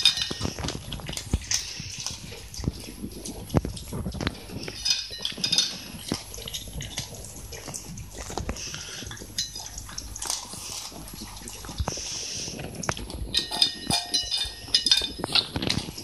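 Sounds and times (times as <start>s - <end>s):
teeth clicking against metal bowl: 0.0s - 12.0s, 12.7s - 16.0s
dog licking and chewing: 0.0s - 16.0s.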